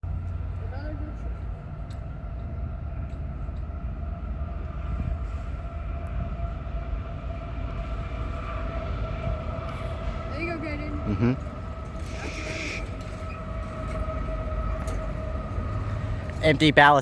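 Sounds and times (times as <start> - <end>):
train passing rumble: 0.0 - 17.0
train whine: 0.0 - 17.0.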